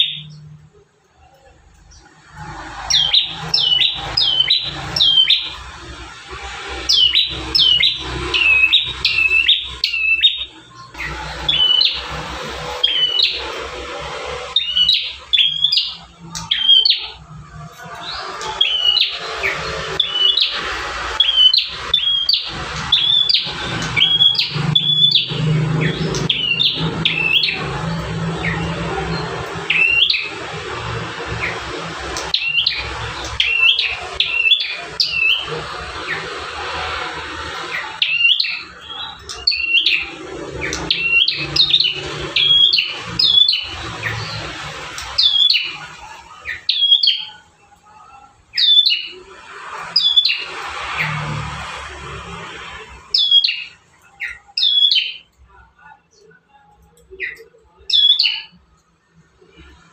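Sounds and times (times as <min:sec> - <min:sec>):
bird singing sharp high notes: 0:00.0 - 0:58.6.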